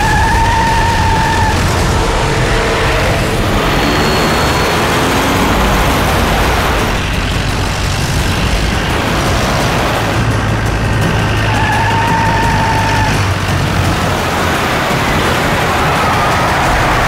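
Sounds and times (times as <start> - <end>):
tyres on dirt and gravel: 0.0 - 17.0
vehicle engines running hard: 0.0 - 17.0.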